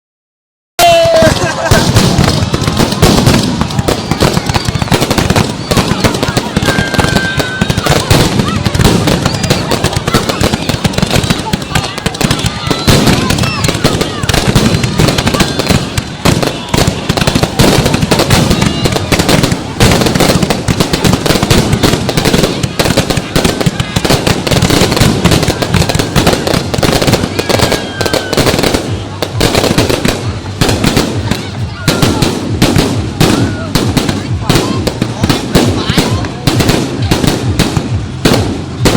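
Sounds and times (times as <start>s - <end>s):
fireworks crackling bangs: 0.8s - 38.9s.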